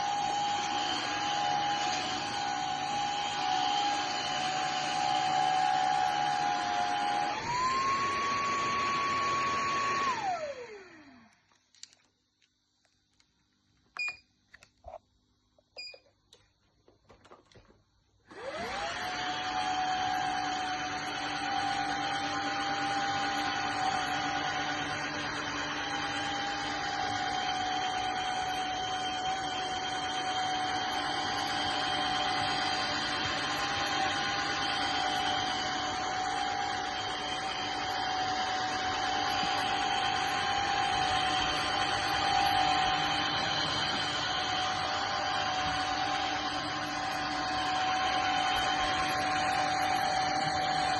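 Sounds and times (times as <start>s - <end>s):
vacuum motor whining: 0.0s - 11.4s, 18.3s - 50.9s.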